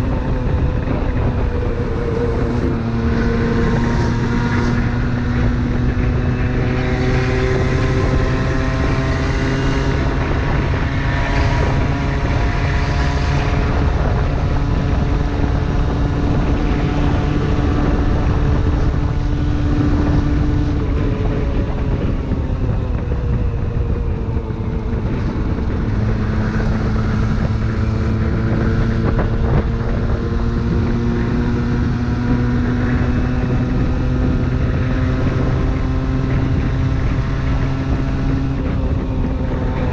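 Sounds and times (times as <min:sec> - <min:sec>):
motorcycle engine buzzing: 0:00.0 - 0:39.9
wind on microphone: 0:00.0 - 0:39.9.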